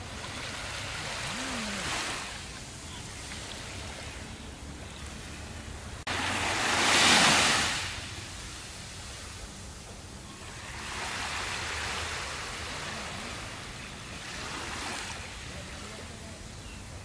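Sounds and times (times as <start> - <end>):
waves washing on sandy beach: 0.0 - 17.0.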